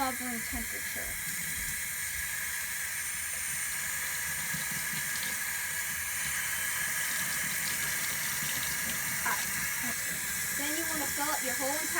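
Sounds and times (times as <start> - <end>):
tap water running: 0.0 - 11.9.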